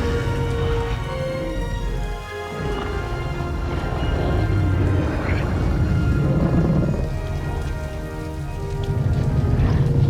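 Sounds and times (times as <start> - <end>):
dramatic orchestral music: 0.0 - 10.0.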